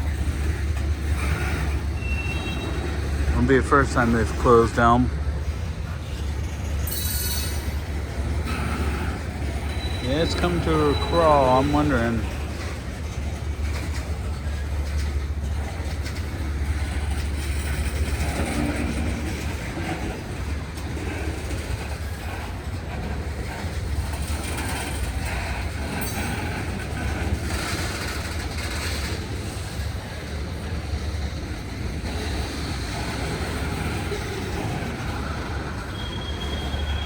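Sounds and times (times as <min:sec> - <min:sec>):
freight train rumbling past: 0:00.0 - 0:37.0.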